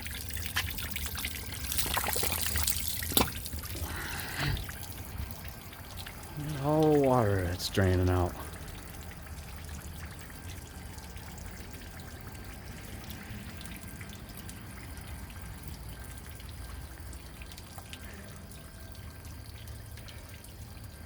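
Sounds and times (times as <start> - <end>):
water trickling and dripping: 0.0 - 21.0.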